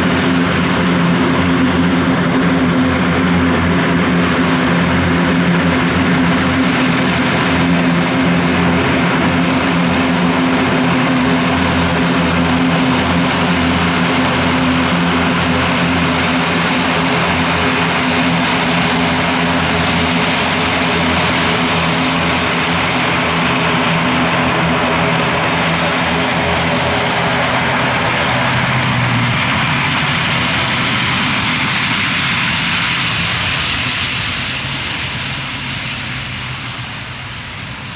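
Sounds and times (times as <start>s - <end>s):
turboprop engines droning: 0.0s - 37.9s.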